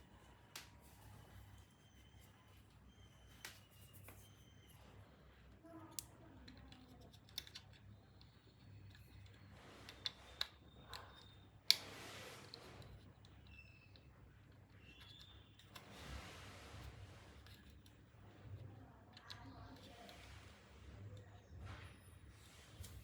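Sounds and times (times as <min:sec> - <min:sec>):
light clicks and scrapes: 0:00.1 - 0:23.0.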